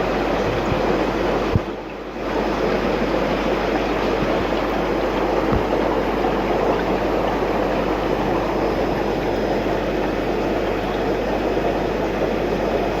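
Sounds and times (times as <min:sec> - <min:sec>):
aquarium filter water rushing: 0:00.0 - 0:13.0.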